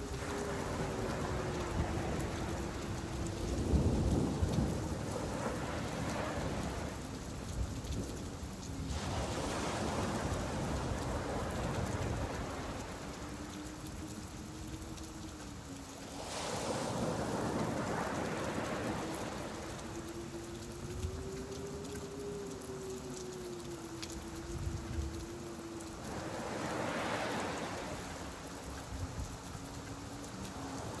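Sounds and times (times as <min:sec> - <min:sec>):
rain hissing: 0:00.0 - 0:31.0.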